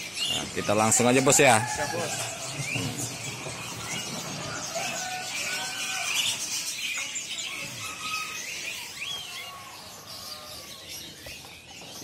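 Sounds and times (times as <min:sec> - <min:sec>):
songbirds chirping and twittering: 0:00.0 - 0:12.0.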